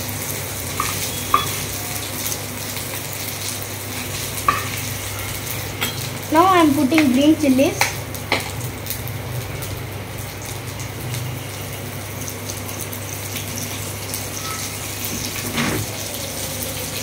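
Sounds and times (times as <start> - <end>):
chillies sizzling in hot oil: 0.0 - 17.0.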